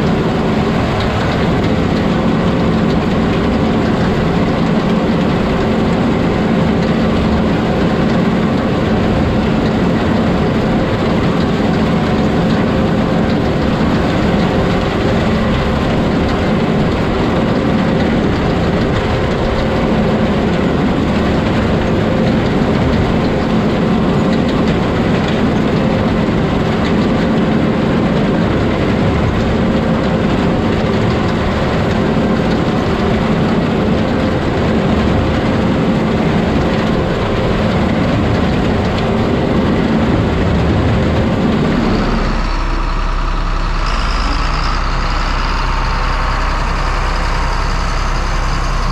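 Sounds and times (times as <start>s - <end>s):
combine harvester drone: 0.0s - 48.9s.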